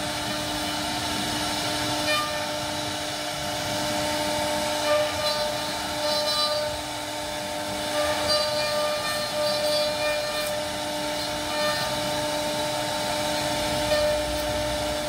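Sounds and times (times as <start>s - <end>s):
router bit cutting wood: 0.0s - 15.0s
router spindle whine: 0.0s - 15.0s.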